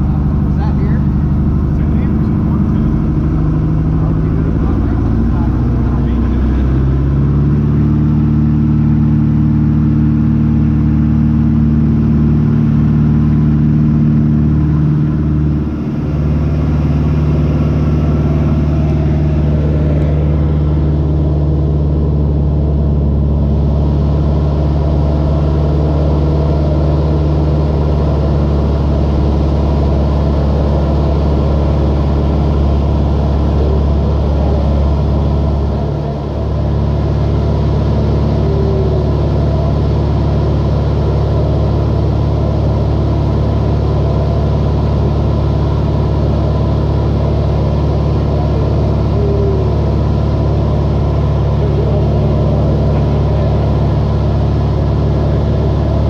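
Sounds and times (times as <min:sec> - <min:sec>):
light aircraft engine running: 0:00.0 - 0:56.0.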